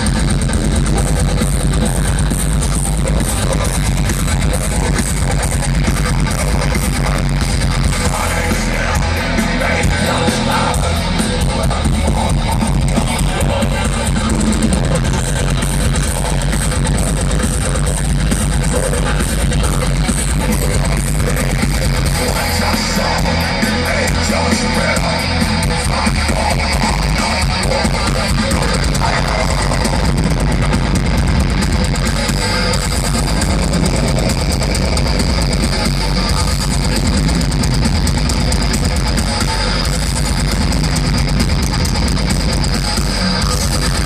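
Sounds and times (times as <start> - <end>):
metal band playing live: 0.0 - 44.0.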